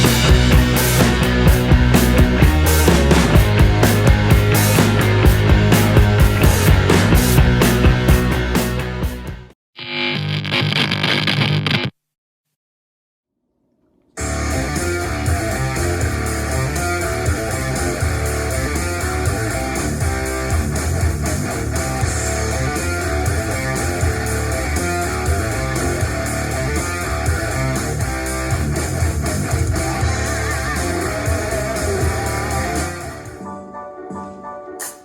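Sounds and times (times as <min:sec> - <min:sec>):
guitar music: 0:00.0 - 0:09.5, 0:14.2 - 0:35.0
steady bass line: 0:00.0 - 0:09.5, 0:14.2 - 0:33.4.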